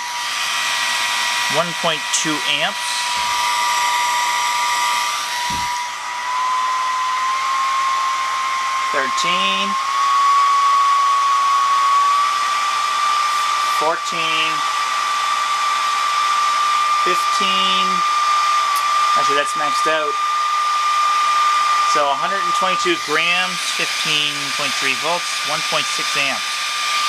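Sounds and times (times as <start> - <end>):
hair dryer fan motor whine: 0.0 - 27.0.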